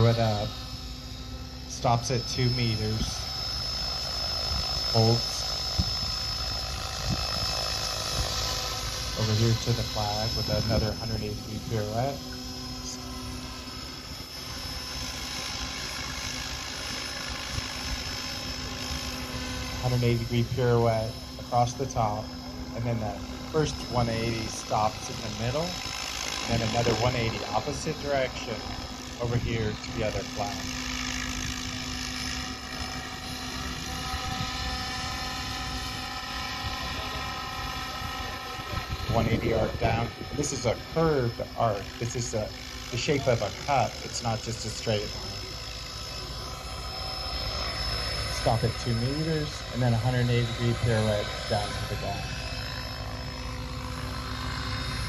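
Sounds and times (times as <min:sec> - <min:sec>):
model helicopter rotor drone: 0:00.0 - 0:55.0.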